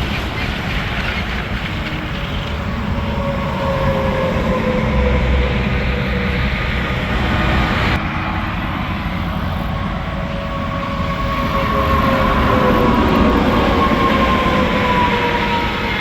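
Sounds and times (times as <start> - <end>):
trucks passing at speed: 0.0 - 16.0.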